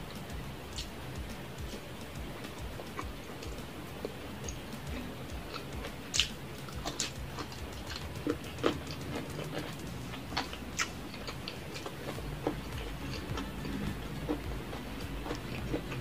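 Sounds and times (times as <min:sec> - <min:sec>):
chewing noodles: 0:03.0 - 0:16.0.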